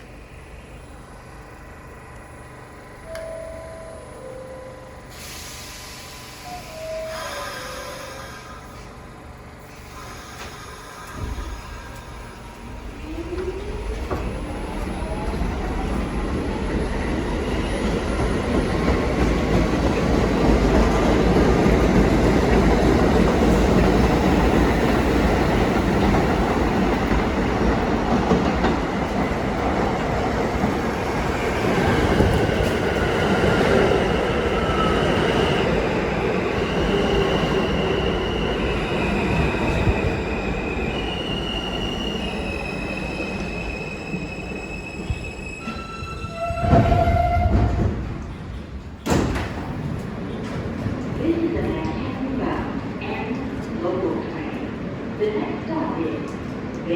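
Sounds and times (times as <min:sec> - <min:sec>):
train wheels rumbling on rail: 0:05.1 - 0:56.9.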